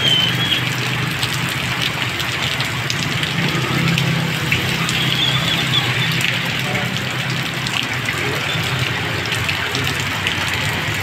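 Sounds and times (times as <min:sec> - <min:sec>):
heavy rain pouring: 0:00.0 - 0:11.0
passing motorcycles and cars: 0:00.0 - 0:11.0
tyres hissing on wet road: 0:00.0 - 0:11.0.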